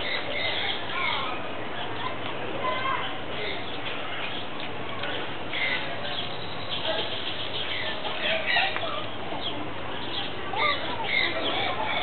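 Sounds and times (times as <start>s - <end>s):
murmur of distant voices: 0.0s - 12.0s
small birds chirping: 0.0s - 12.0s.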